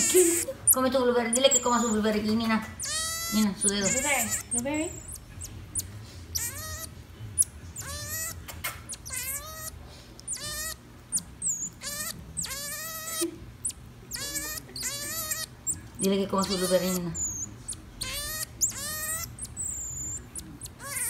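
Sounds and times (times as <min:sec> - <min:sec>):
marmoset high wavering calls: 0:00.0 - 0:02.1, 0:02.8 - 0:05.2, 0:05.8 - 0:09.7, 0:10.3 - 0:21.0.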